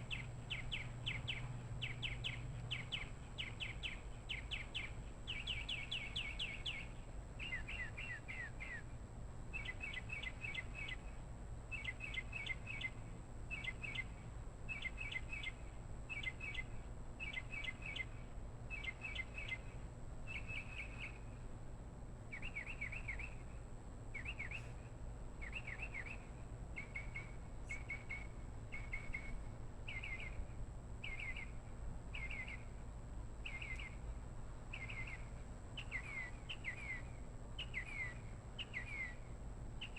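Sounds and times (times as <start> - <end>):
bird chirping: 0.0 - 8.9, 9.5 - 21.3, 22.3 - 23.5, 24.2 - 24.8, 25.4 - 32.8, 33.4 - 34.1, 34.7 - 39.9.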